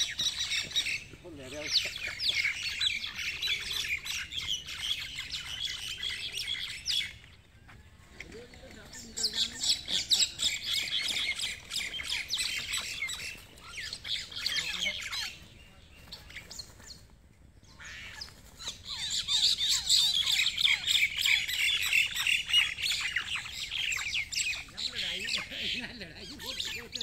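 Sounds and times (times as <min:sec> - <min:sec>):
birds squawking harshly: 0:00.0 - 0:27.0.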